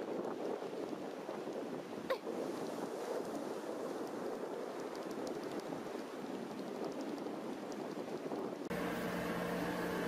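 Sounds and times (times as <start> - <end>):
surf at the shoreline: 0.0 - 10.0
wind: 0.0 - 10.0.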